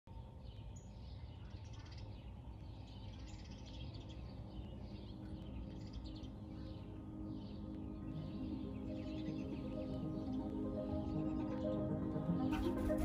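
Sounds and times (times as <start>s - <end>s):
low background hum: 0.1s - 11.4s
songbirds chirping: 0.1s - 13.0s.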